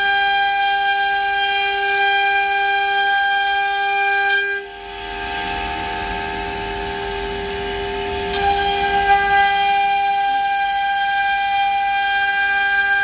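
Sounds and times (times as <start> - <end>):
router spindle whining: 0.0 - 13.0.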